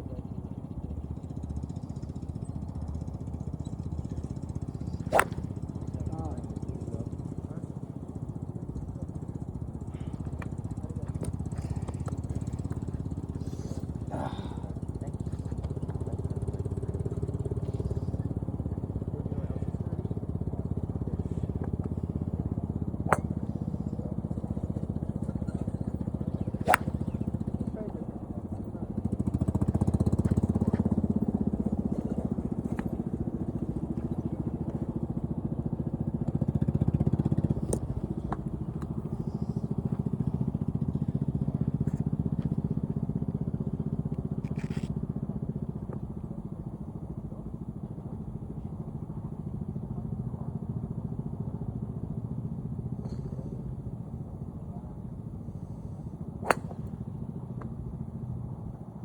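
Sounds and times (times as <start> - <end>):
motor engine running: 0.2 - 59.0.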